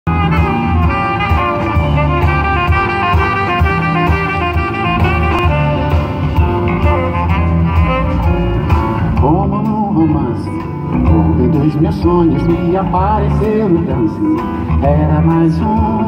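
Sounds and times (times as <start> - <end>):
drum kit steady beat: 0.1 - 16.0
lead melody line: 0.1 - 16.0
upright bass low notes: 0.1 - 16.0.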